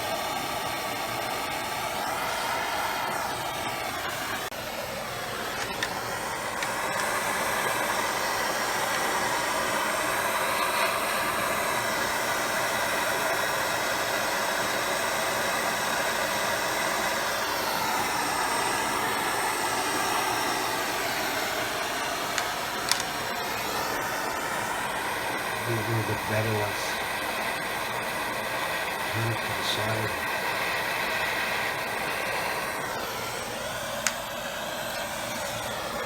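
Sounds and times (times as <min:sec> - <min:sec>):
torch flame hissing: 0:00.0 - 0:36.0.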